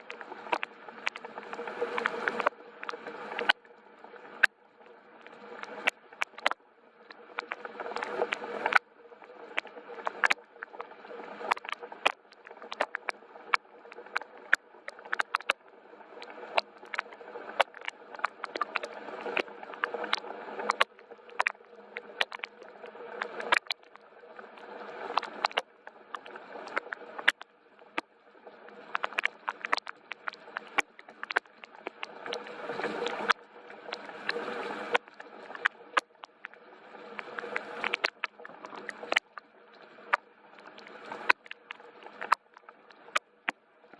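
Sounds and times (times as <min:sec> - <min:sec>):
soft hiss of rainfall: 0:00.0 - 0:43.9.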